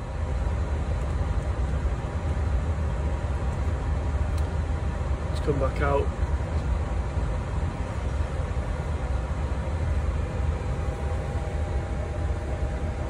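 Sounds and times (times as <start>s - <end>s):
aircraft cockpit low rumble and hum: 0.0s - 13.0s
faint steady whine: 0.0s - 13.0s.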